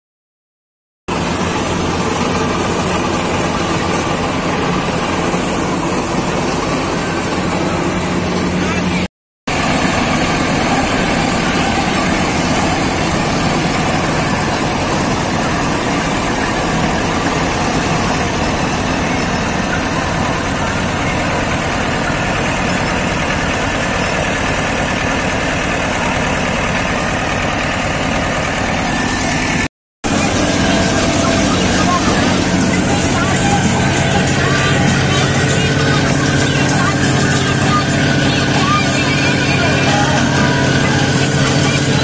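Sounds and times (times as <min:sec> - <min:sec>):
combine harvester running: 0:01.1 - 0:42.0.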